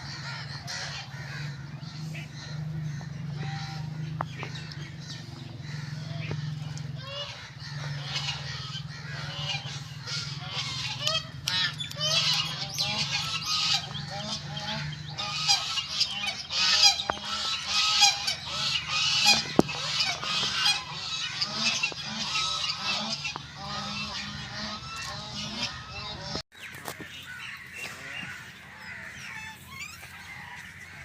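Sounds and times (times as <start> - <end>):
steady low hum: 0.0 - 26.4
flock of fowl calling: 0.0 - 31.0.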